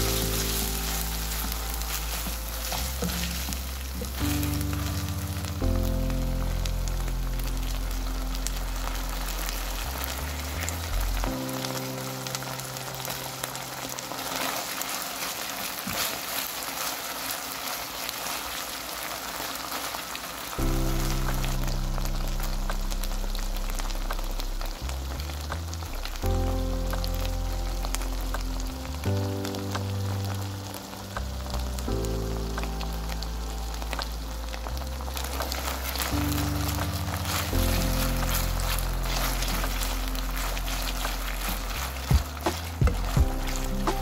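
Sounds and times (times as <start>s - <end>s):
background music with bass: 0.0s - 14.0s, 20.6s - 44.0s
sauce sizzling in a pan: 0.0s - 44.0s.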